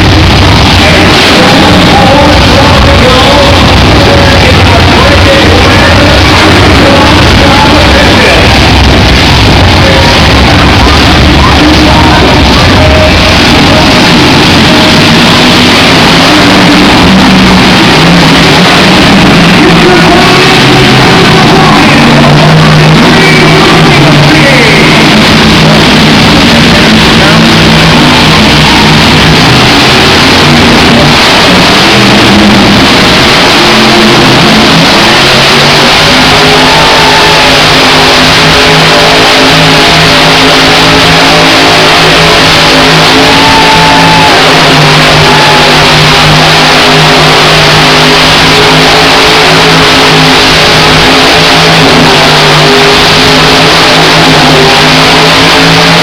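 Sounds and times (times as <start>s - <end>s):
loud rock music: 0.0s - 56.0s
monster truck engine revving: 0.0s - 56.0s.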